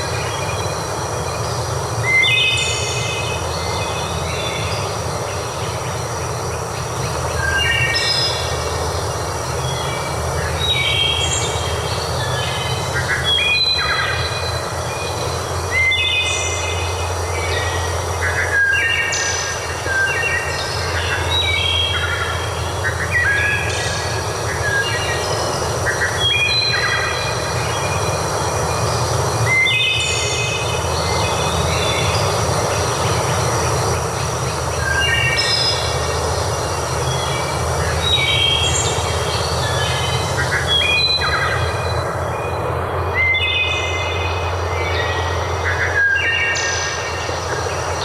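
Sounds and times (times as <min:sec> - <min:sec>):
birds calling: 0:00.0 - 0:48.0
steady rushing noise: 0:00.0 - 0:48.0.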